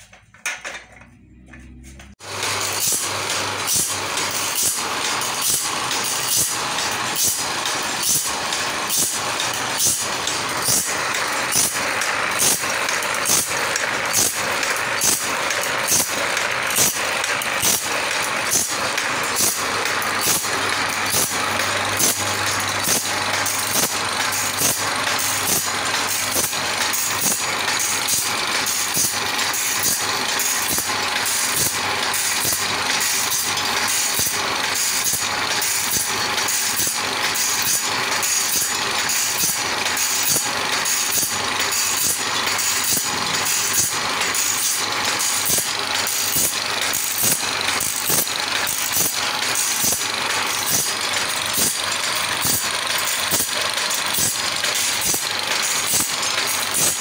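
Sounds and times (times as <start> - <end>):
abrasive wheel grinding blade: 0.0 - 57.0.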